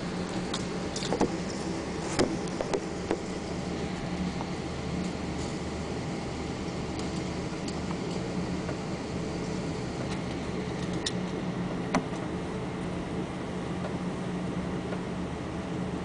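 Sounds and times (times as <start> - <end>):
aircraft cabin engine drone: 0.0 - 16.0.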